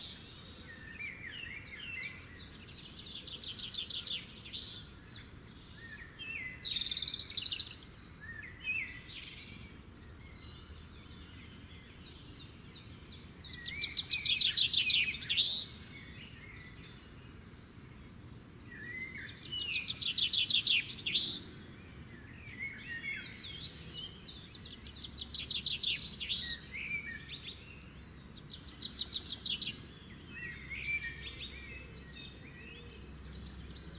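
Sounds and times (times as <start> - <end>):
birds chirping and twittering: 0.0 - 33.9.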